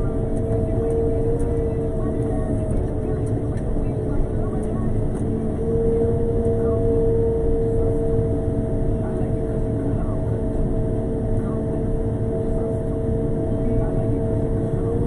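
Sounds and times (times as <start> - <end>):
steady machine whine: 0.0 - 15.0.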